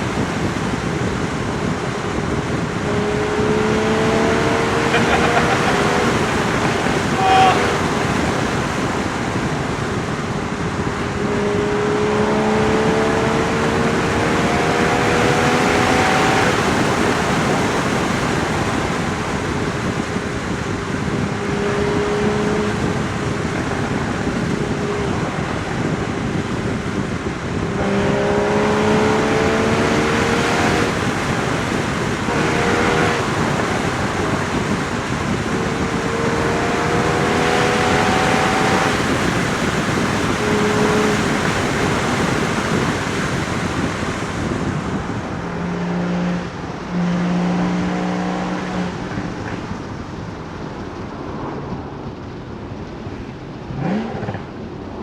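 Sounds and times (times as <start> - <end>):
car engine revving: 0.0 - 50.0, 53.6 - 54.9
wind and road noise: 0.0 - 55.0.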